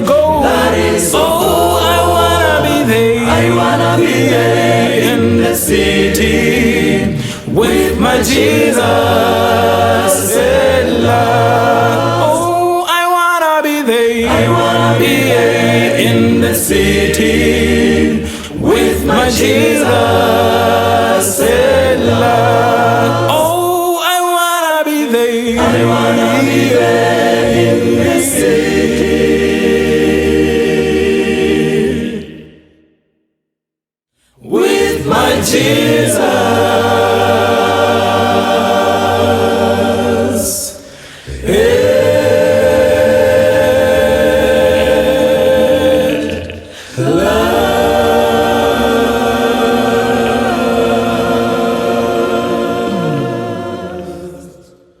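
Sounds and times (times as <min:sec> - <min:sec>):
a cappella choir singing: 0:00.0 - 0:33.0, 0:34.2 - 0:55.0.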